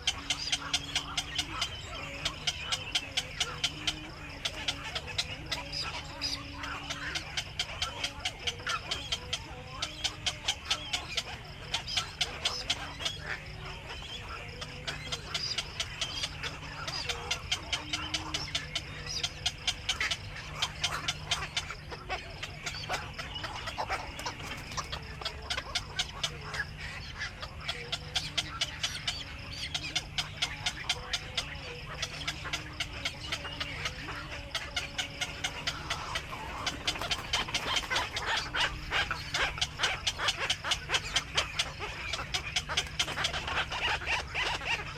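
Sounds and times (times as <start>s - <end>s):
herons clicking chatter: 0.0s - 44.9s.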